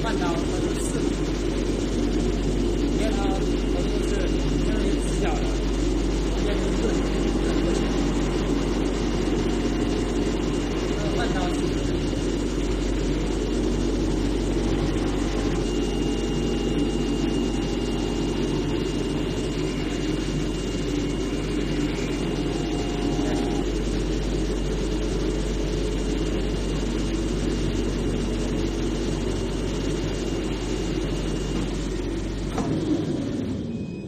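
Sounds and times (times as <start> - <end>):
cutting machine hum: 0.0 - 33.7
thin high whine: 0.0 - 34.0.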